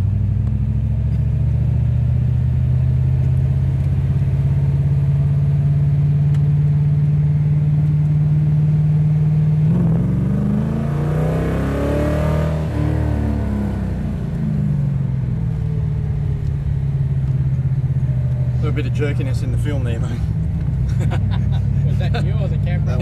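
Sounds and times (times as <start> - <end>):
car engine heard from inside: 0.0 - 23.0.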